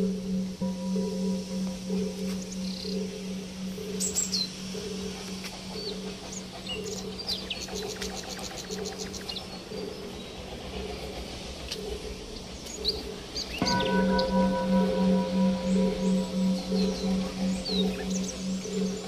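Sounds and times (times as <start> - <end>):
ambient background music: 0.0 - 19.0
small birds chirping: 0.0 - 19.0.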